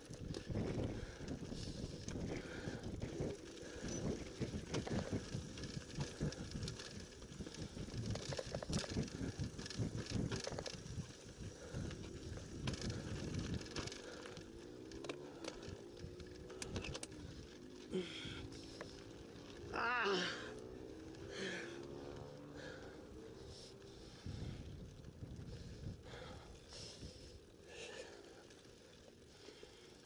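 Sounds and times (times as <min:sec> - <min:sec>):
bike tyres rattling on loose rock: 0:00.0 - 0:30.0.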